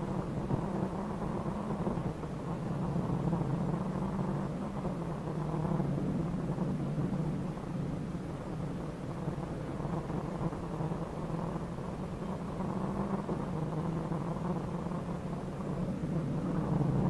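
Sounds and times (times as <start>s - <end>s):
rally car engine running hard: 0.0s - 17.0s
road and tyre noise: 0.0s - 17.0s.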